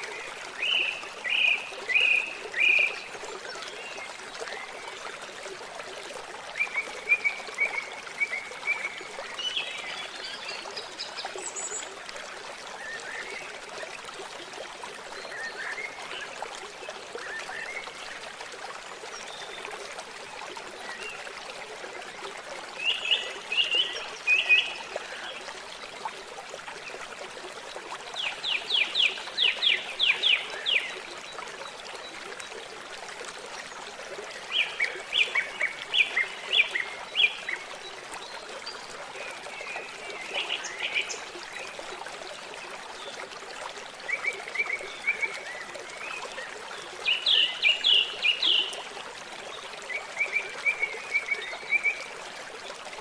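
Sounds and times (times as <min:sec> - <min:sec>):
water trickling and rushing: 0:00.0 - 0:53.0.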